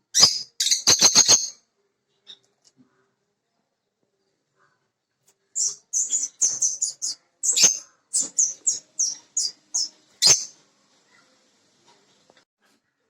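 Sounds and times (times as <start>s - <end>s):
bird chirping: 0.1s - 11.3s.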